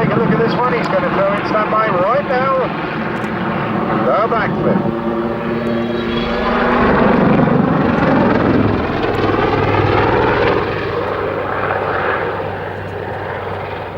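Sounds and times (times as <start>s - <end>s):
helicopter rotors and engines: 0.0s - 13.9s.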